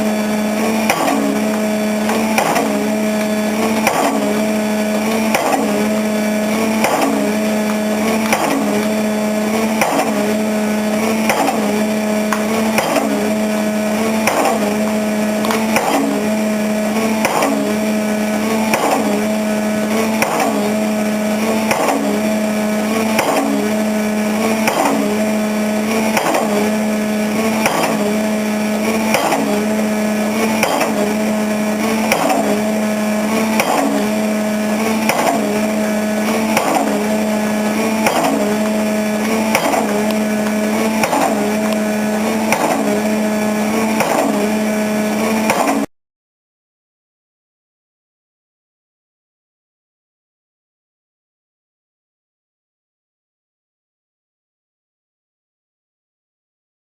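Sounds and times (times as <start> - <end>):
pile-driving hammer blows: 0.0 - 45.9
rig engine drone: 0.0 - 45.9.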